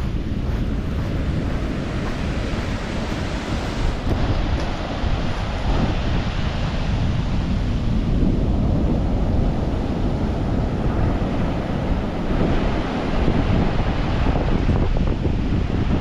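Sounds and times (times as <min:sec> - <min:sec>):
sea surf washing onto beach: 0:00.0 - 0:16.0
wind buffeting microphone: 0:00.0 - 0:16.0.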